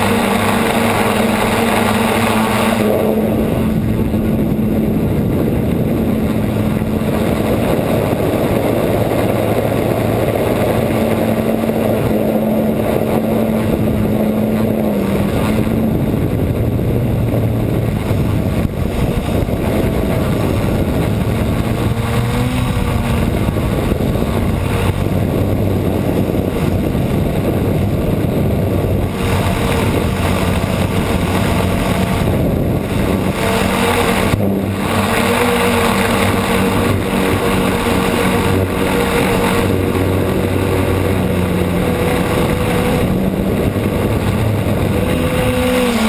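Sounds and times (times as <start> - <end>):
model aircraft propeller drone: 0.0 - 46.0
rushing air: 0.0 - 46.0.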